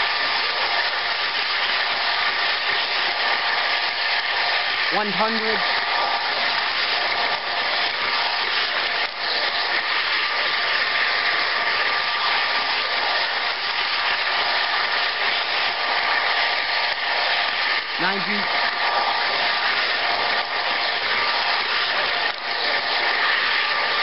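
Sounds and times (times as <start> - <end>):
model train motor whir: 0.0 - 24.0.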